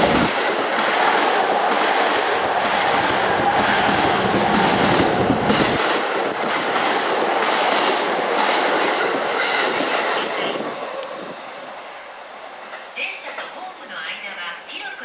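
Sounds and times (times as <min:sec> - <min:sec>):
electric train passing: 0:00.0 - 0:14.4.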